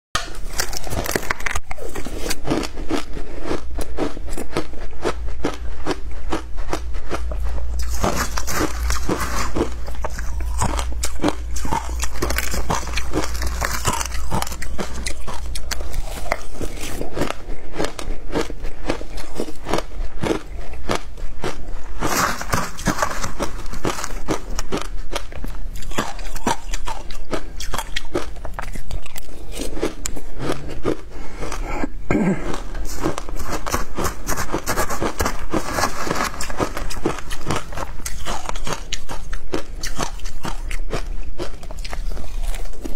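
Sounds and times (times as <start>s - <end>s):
ice crunching while chewed: 0.2s - 42.9s.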